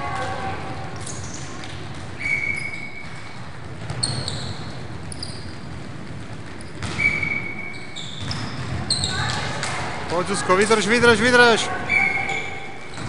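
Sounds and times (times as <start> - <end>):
shoes squeaking on floor: 0.8 - 13.0.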